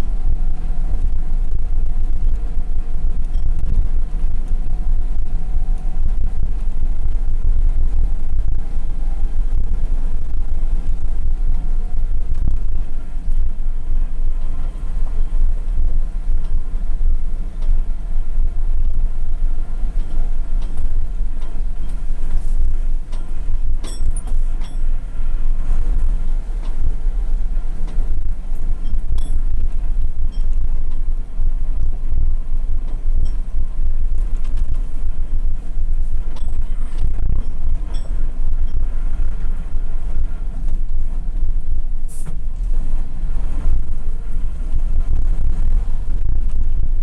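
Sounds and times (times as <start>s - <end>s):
truck engine rumbling: 0.0s - 47.0s.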